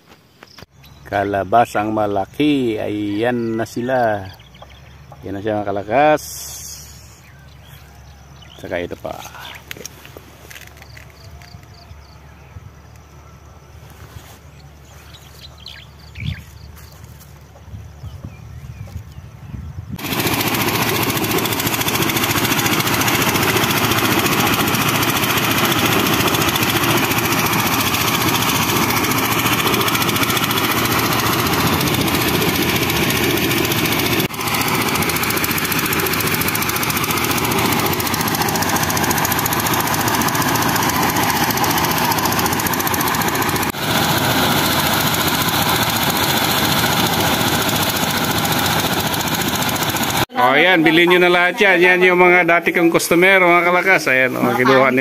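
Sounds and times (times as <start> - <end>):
corn sheller engine drone: 0.9 - 18.0, 20.0 - 55.0.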